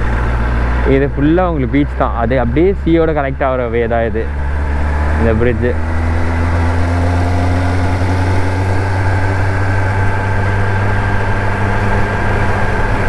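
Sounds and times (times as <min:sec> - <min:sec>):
motorcycle engine humming: 0:00.0 - 0:13.0.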